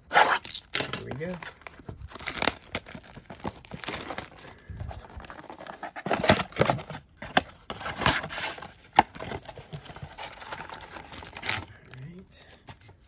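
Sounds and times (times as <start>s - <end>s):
packaging tearing and crinkling: 0.1s - 13.0s.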